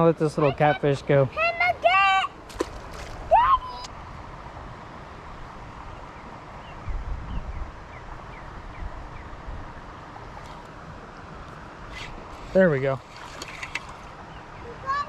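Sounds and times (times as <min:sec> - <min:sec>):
wind buffeting microphone: 0:02.8 - 0:15.0.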